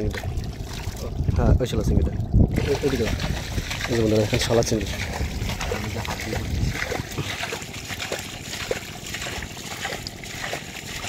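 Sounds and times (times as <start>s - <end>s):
small splashes in shallow water: 0.0s - 1.1s, 2.5s - 11.0s.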